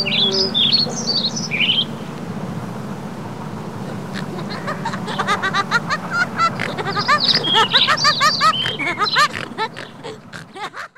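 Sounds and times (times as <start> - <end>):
birds chirping rapidly: 0.0 - 10.9
steady low hum: 0.0 - 10.9.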